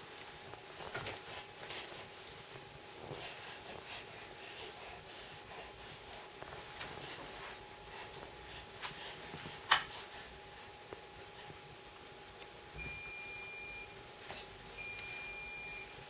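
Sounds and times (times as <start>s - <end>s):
small rustles: 0.0s - 15.8s.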